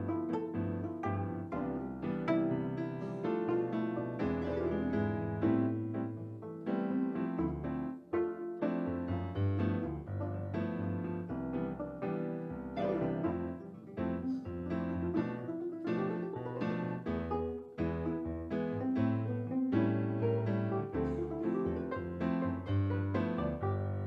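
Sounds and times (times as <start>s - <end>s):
piano playing: 0.0s - 24.0s.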